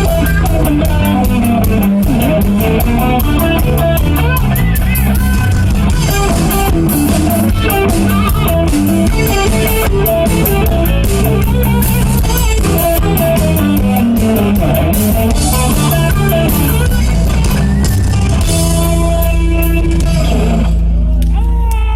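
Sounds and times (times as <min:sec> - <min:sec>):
rock band playing instrumental: 0:00.0 - 0:21.6.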